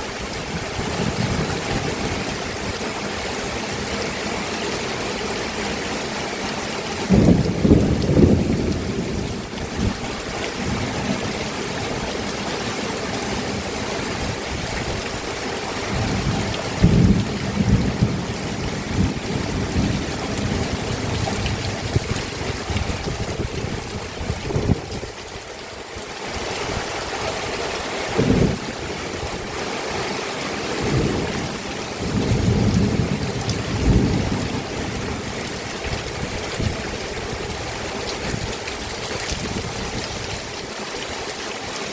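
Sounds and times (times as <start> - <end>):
steady rainfall: 0.0 - 41.9.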